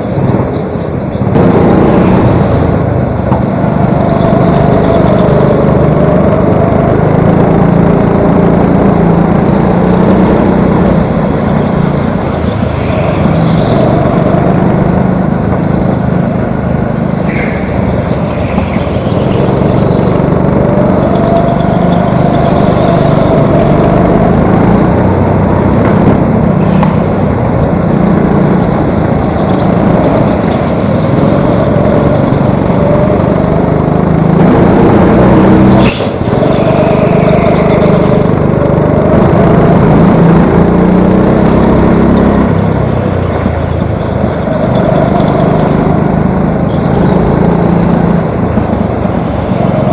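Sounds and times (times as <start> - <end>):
go-kart engine revving: 0.0 - 49.9.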